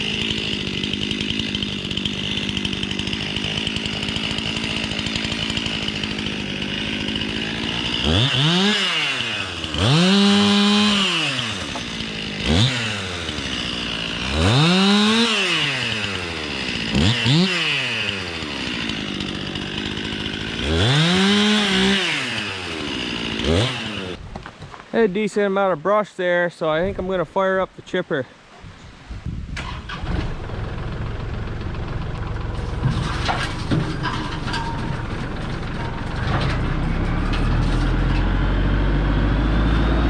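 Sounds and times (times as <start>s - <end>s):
chainsaw idling and revving: 0.0s - 24.2s, 29.6s - 40.0s.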